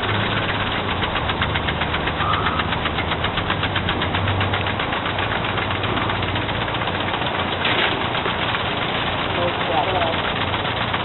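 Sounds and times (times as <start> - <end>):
lawn sprinklers ticking: 0.0 - 11.0.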